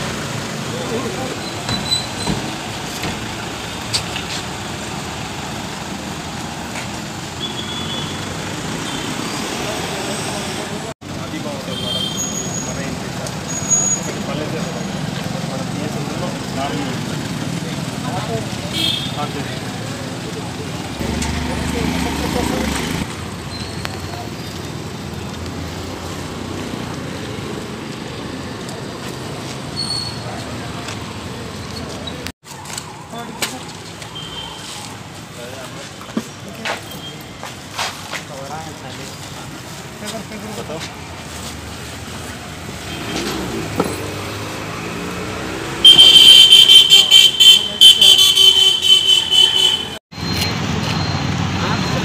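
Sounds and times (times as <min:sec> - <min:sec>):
roadside traffic: 0:00.0 - 0:52.0.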